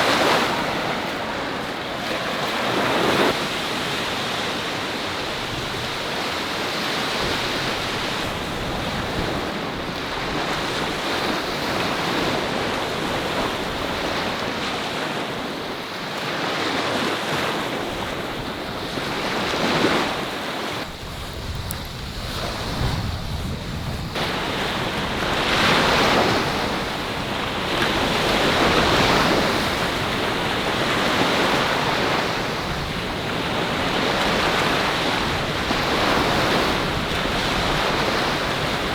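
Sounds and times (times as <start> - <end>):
wind rumbling on microphone: 0.0 - 16.0, 17.0 - 38.9
sea waves breaking on beach: 0.0 - 38.9.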